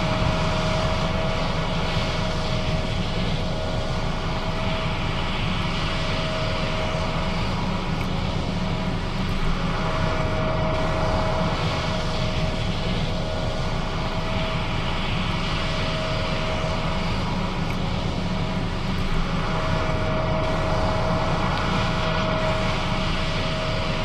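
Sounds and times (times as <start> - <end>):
combine engine drone: 0.0 - 24.0
machinery whine: 0.0 - 24.0.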